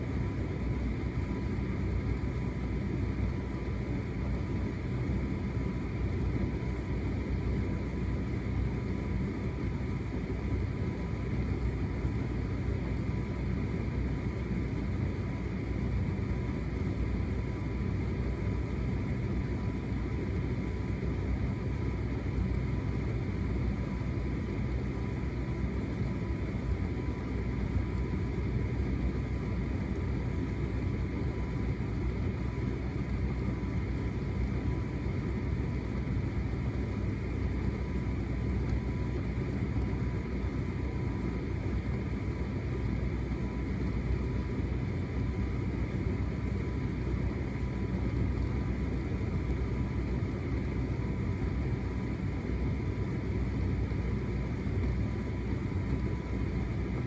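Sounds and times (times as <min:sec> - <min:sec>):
thin constant whine: 0:00.0 - 0:57.0
tumble dryer running: 0:00.0 - 0:57.0.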